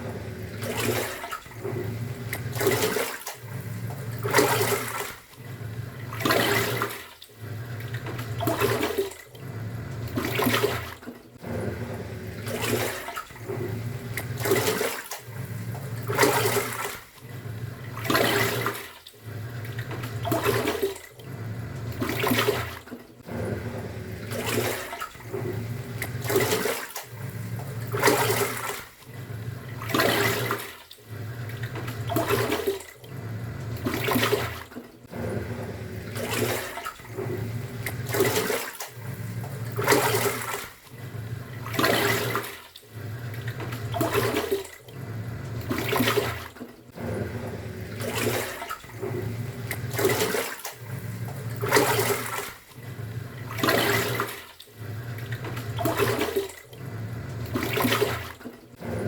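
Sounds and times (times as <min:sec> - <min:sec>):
washing machine motor hum: 0:00.0 - 0:59.0
water swishing in washing machine: 0:00.0 - 0:59.0.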